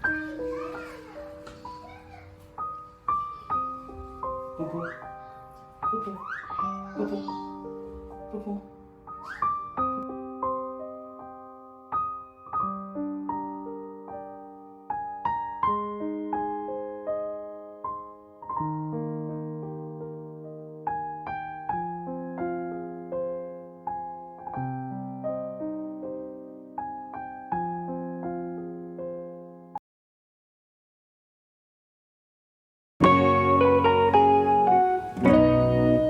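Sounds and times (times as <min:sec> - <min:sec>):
slow piano music: 0:00.0 - 0:29.8, 0:33.0 - 0:36.0.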